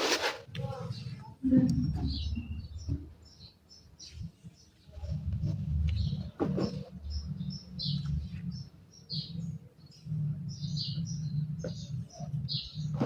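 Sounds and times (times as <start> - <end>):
low uneven rumble: 0.4 - 13.0
small birds chirping: 0.5 - 13.0.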